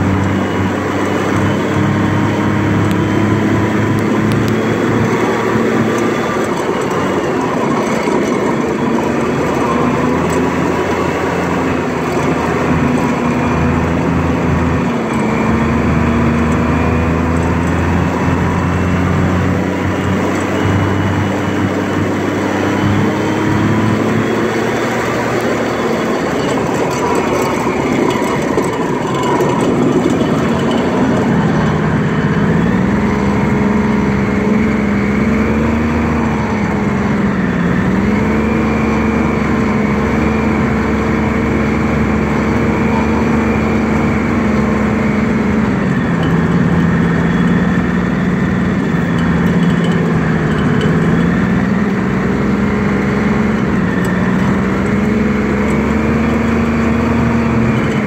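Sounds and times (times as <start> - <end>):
tracked vehicle engine running: 0.0 - 58.0.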